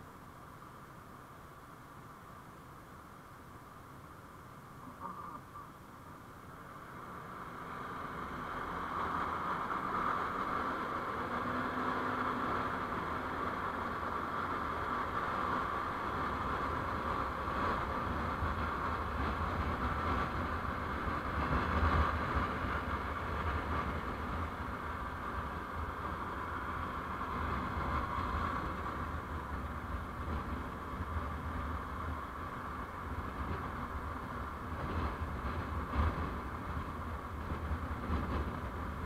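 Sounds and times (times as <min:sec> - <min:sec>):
road vehicle running noise: 0:00.0 - 0:39.0.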